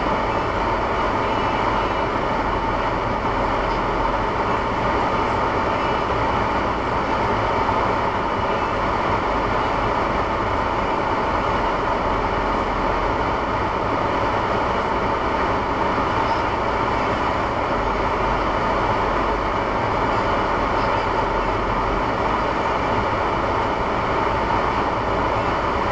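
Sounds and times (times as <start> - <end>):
car engine and tire noise: 0.0 - 25.9.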